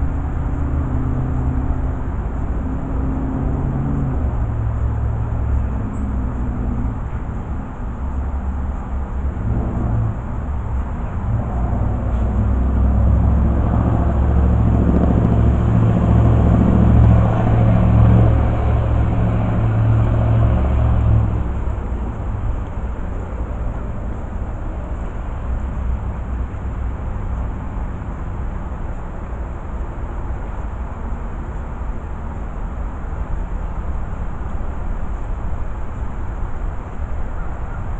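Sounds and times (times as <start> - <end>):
background traffic noise: 0.0 - 37.9
vehicle engine rumble driving past: 0.0 - 37.9.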